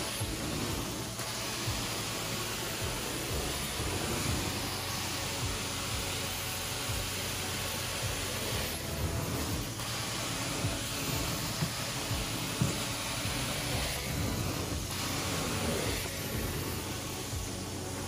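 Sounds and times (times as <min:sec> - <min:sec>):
low machine hum: 0:00.0 - 0:18.0
rushing hiss of suction: 0:00.0 - 0:18.0.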